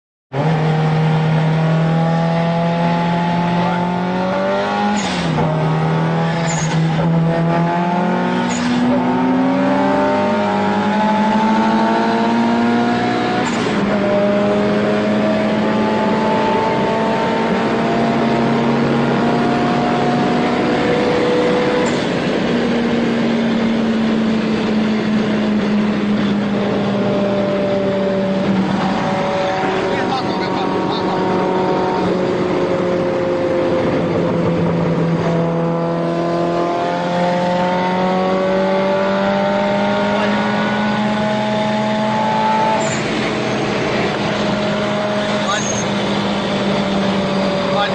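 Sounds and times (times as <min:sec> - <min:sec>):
car engine at high revs: 0:00.3 - 0:47.9
road and wind noise: 0:00.3 - 0:47.9.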